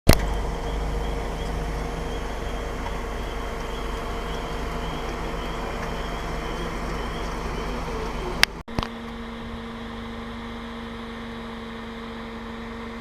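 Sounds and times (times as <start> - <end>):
car road and engine noise: 0.1 - 13.0.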